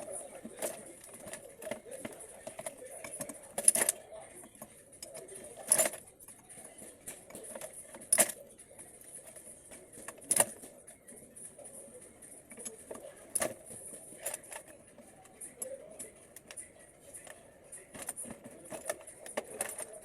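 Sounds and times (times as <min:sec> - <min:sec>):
metal tools clinking: 0:00.0 - 0:10.7, 0:12.2 - 0:20.0.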